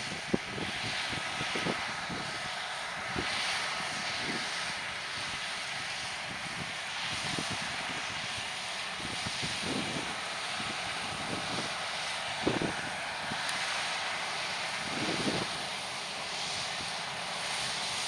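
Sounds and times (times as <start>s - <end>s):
harvest machinery engine drone: 0.0s - 18.0s
wind buffeting microphone: 0.0s - 18.0s.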